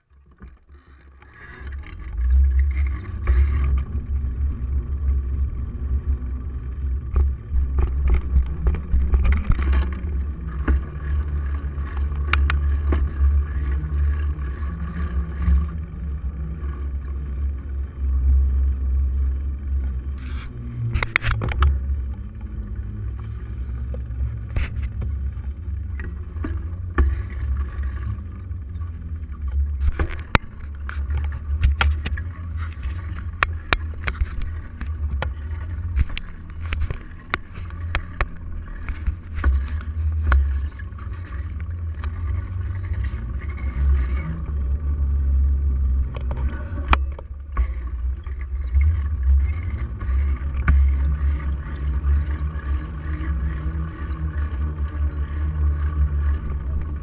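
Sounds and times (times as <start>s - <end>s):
bike rattling and clicking: 0.0s - 57.0s
road rumble: 0.0s - 57.0s.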